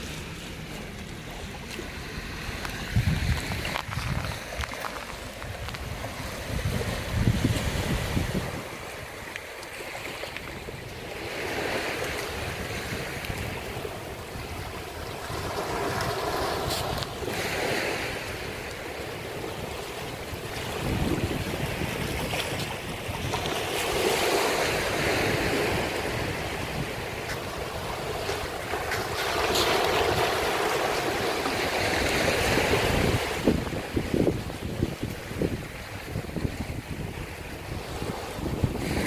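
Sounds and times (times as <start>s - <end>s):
waves washing on sandy shore: 0.0s - 39.0s
wind rumbling on microphone: 0.0s - 39.0s.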